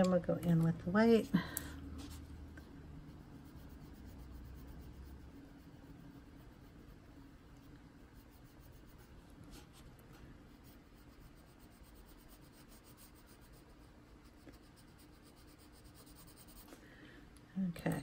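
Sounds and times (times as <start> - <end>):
colored pencil scratching on paper: 1.9 - 16.8.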